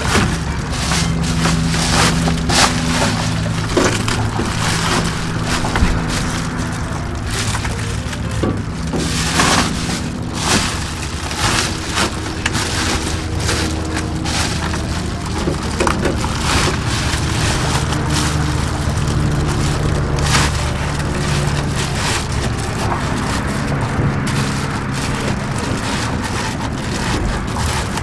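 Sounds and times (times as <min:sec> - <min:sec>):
foil insulation crinkling: 0:00.0 - 0:28.0
steady low hum: 0:00.0 - 0:28.0.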